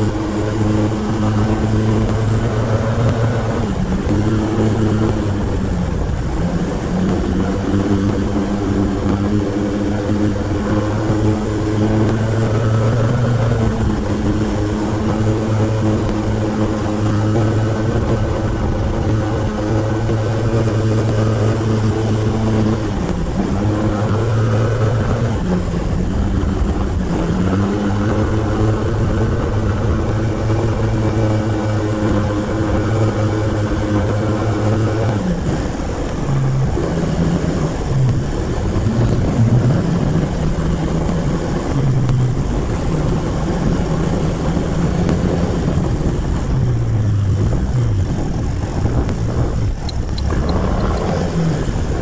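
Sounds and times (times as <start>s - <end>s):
motorcycle engine under load: 0.0s - 52.0s
wind rushing over microphone: 0.0s - 52.0s.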